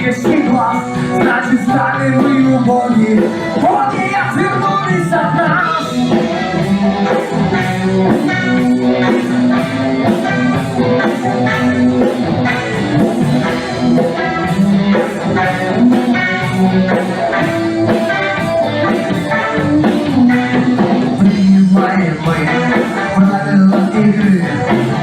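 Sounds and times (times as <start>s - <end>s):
rock band instrumental: 0.0s - 25.0s.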